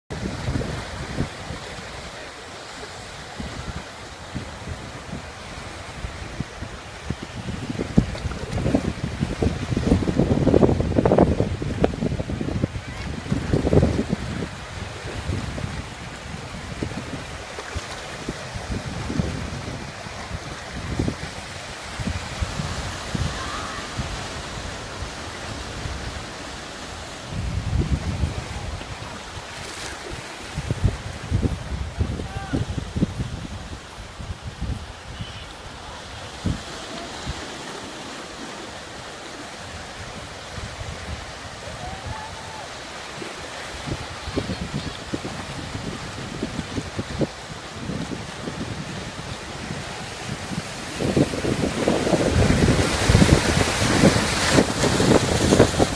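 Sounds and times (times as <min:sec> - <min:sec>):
wind buffeting microphone: 0:00.1 - 0:02.3, 0:03.0 - 0:55.9
ocean surf breaking on beach: 0:00.1 - 0:55.9.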